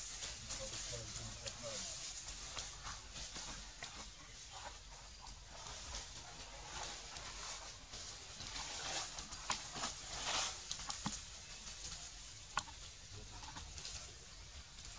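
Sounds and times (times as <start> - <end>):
dry leaves rustling and crackling: 0.0 - 14.9.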